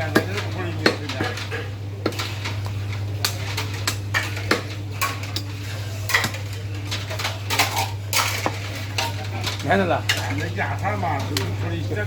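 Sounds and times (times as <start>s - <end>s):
metal utensils clinking: 0.0s - 12.0s.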